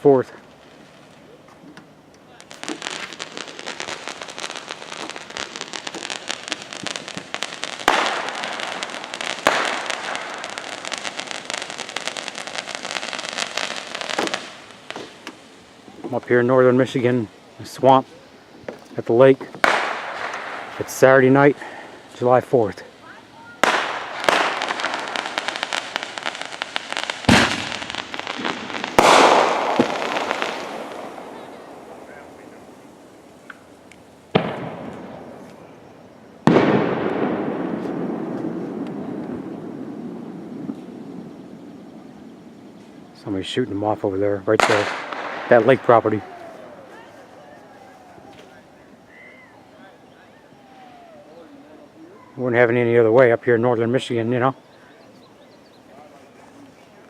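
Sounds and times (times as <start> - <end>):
fireworks bangs: 0.0 - 54.6
fireworks crackling: 0.0 - 57.0.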